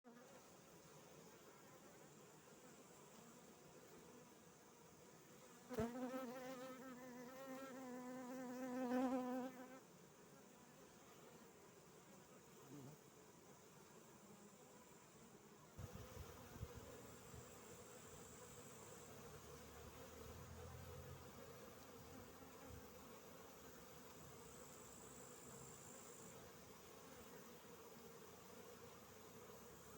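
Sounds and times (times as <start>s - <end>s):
faint steady background noise: 0.1s - 29.9s
honeybee buzzing: 5.3s - 29.9s.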